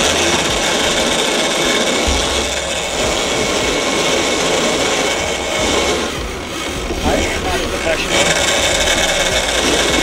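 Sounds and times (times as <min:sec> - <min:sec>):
outboard engine roar: 0:00.0 - 0:10.0
water noise: 0:00.0 - 0:10.0.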